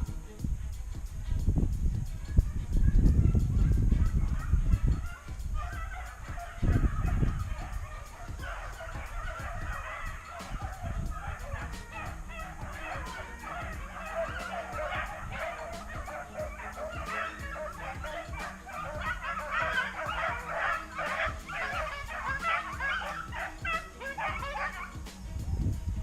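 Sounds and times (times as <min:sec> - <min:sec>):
dogs baying and yipping: 0:02.1 - 0:25.6.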